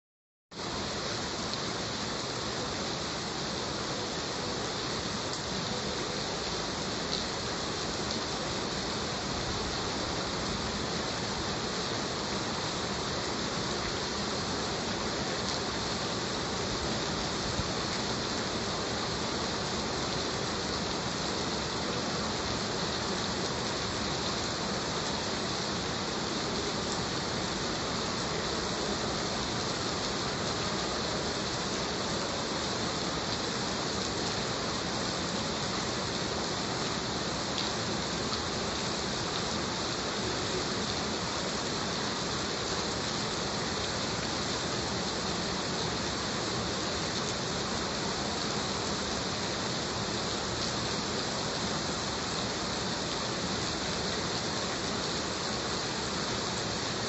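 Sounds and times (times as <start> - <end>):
heavy rain hissing: 0.5 - 57.0.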